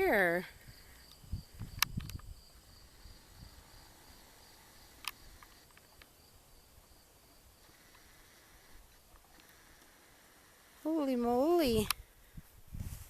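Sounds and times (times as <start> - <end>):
high insect trill: 0.0 - 12.4.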